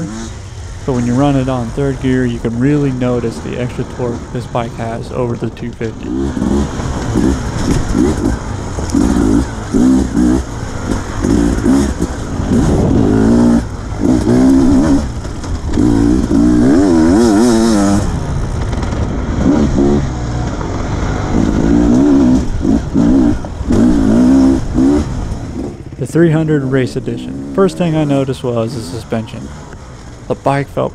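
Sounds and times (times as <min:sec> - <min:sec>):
dirt bike engine revving: 0:00.0 - 0:30.6.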